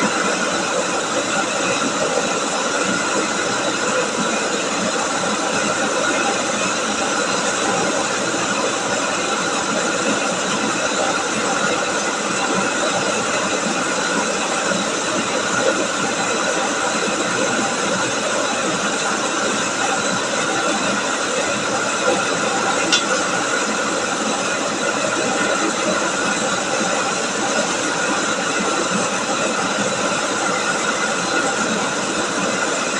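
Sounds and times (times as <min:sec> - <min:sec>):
rice milling machine whirring: 0:00.0 - 0:32.9.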